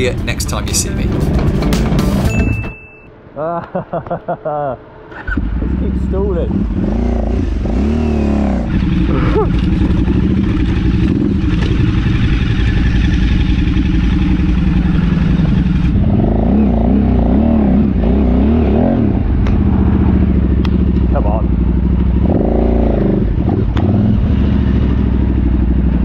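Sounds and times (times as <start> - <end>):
motorcycle engine revving: 5.1 - 26.0.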